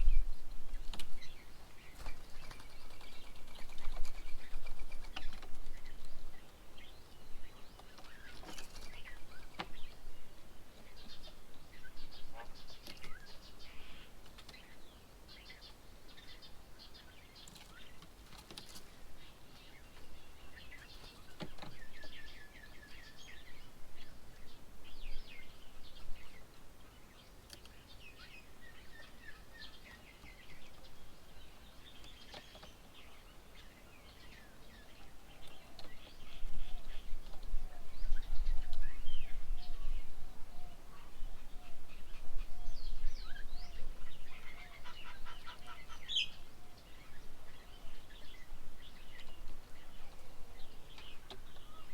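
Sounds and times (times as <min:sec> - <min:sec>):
wild birds chirping: 0:00.0 - 0:51.9.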